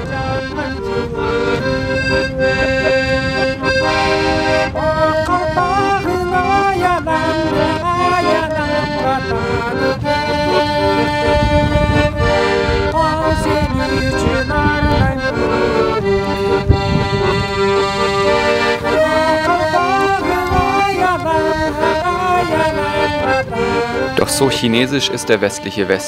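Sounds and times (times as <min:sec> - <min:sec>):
piano accordion playing folk tune: 0:00.0 - 0:26.0.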